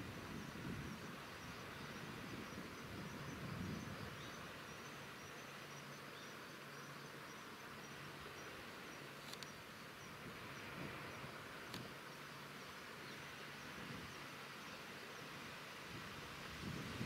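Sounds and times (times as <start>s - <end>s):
high insect chirping: 0.0s - 15.5s
steady hiss: 0.0s - 17.0s.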